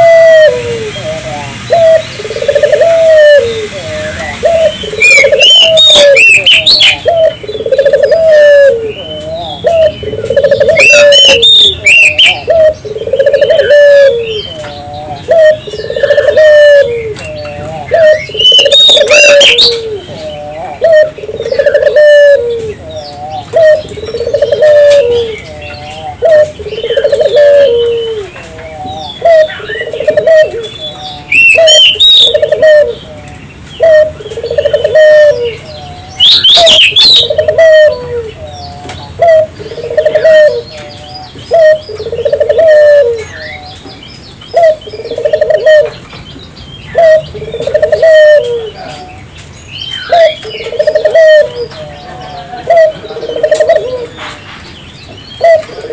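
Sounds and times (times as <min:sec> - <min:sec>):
dove cooing: 0:00.0 - 0:43.8, 0:44.5 - 0:46.0, 0:46.9 - 0:49.3, 0:49.9 - 0:54.4, 0:55.3 - 0:55.9
small birds chirping: 0:00.0 - 0:55.9.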